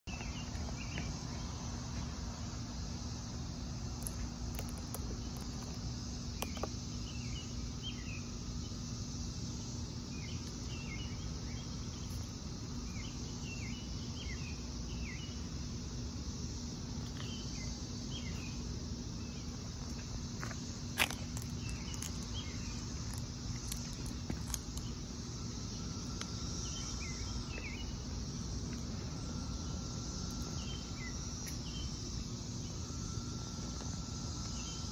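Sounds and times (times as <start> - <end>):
insect drone: 0.0 - 34.9
low hum and rumble: 0.1 - 34.9.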